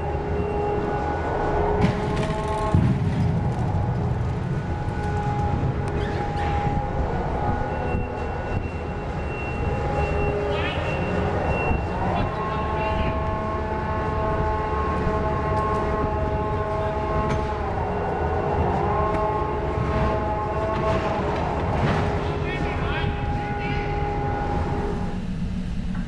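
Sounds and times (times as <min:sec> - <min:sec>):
crane winch rumbling and whining: 0:00.0 - 0:26.0.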